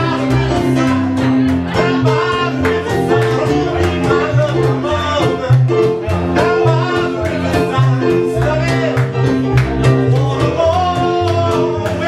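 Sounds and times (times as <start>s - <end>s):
guitar: 0.0s - 12.0s
person singing: 0.0s - 12.0s
stepping bass line: 0.0s - 12.0s.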